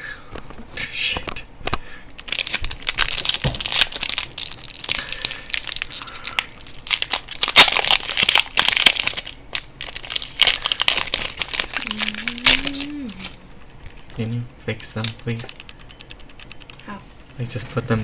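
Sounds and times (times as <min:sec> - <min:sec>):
foil wrapper crinkling: 0:02.2 - 0:16.8.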